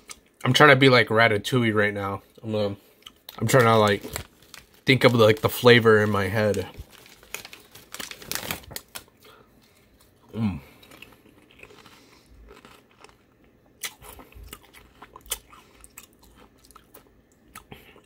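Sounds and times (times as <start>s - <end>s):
person chewing crunchy chips: 3.0s - 18.0s.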